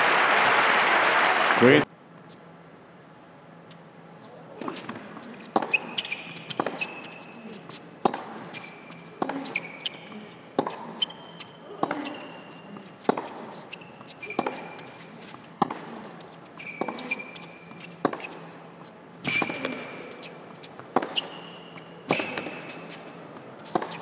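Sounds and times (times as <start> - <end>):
high shoe squeaks: 3.7 - 24.0
racket striking tennis ball: 4.4 - 24.0
tennis ball bouncing: 4.5 - 24.0.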